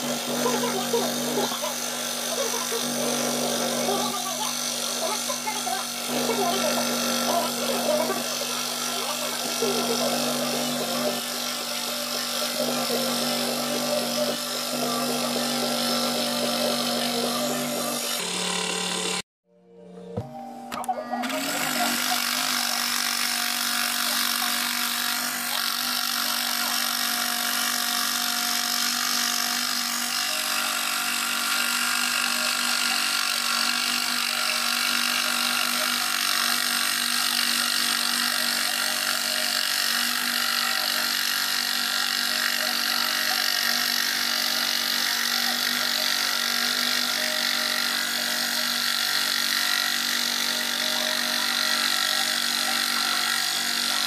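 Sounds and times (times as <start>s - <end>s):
scroll saw cutting board: 0.0s - 19.2s, 21.2s - 54.0s.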